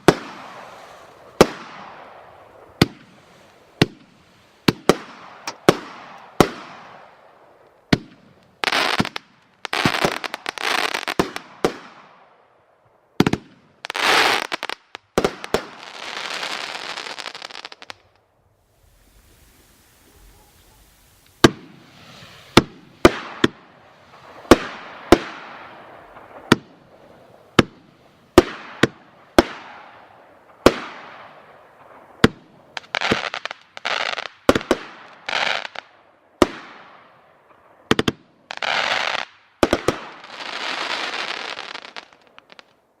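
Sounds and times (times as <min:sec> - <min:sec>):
fireworks bangs: 0:00.0 - 0:12.2, 0:18.9 - 0:35.8, 0:36.4 - 0:42.7
fireworks crackling bursts: 0:00.0 - 0:12.3, 0:13.2 - 0:43.0.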